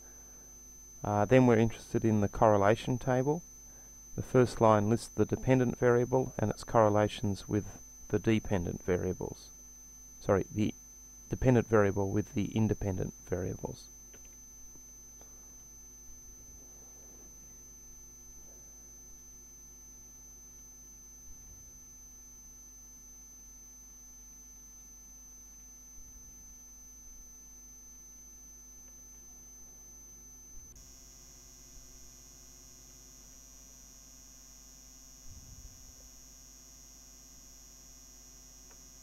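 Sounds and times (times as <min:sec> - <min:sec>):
high-pitched whine: 0:00.0 - 0:23.6, 0:25.2 - 0:39.0
faint electrical hum: 0:00.0 - 0:39.0.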